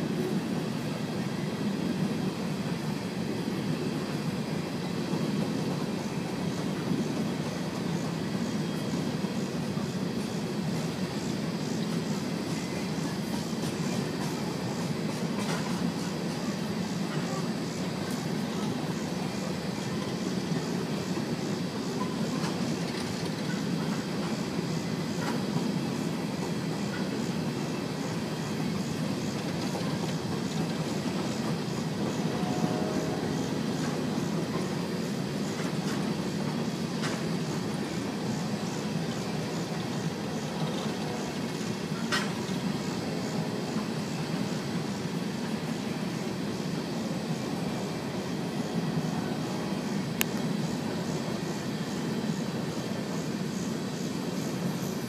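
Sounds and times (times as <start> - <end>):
train wheels rumbling and clacking: 0.0 - 55.0.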